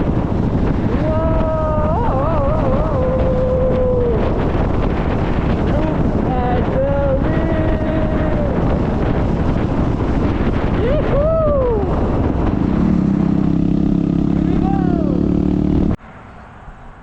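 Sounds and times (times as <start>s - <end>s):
motorcycle engine running: 0.0s - 10.8s, 11.4s - 16.0s
wind buffeting microphone: 0.0s - 16.0s.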